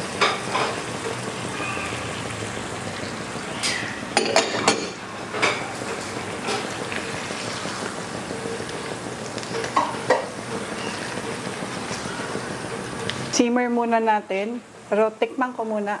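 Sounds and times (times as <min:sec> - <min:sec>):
pan sizzling: 0:00.0 - 0:14.3.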